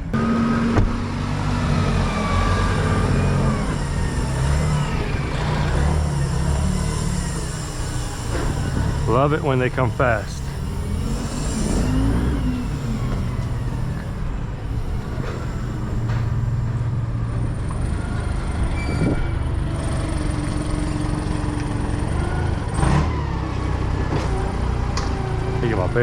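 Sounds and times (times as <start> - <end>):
engines rumbling: 0.0 - 26.0.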